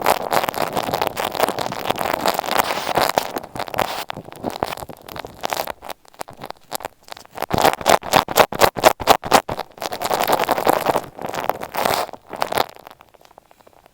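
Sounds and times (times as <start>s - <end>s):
scratching on a microphone: 0.0s - 13.9s.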